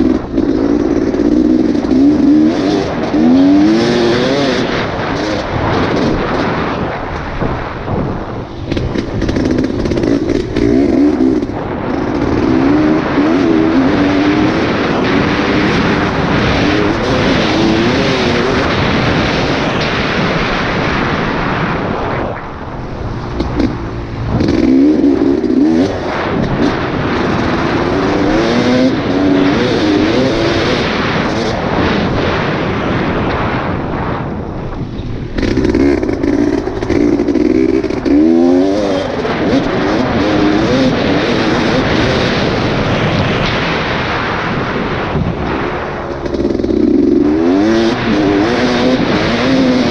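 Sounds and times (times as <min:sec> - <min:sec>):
off-road vehicle engine revving: 0:00.0 - 0:21.7, 0:22.8 - 0:33.8, 0:34.6 - 0:44.0, 0:45.3 - 0:49.9
wind noise on microphone: 0:00.0 - 0:49.9.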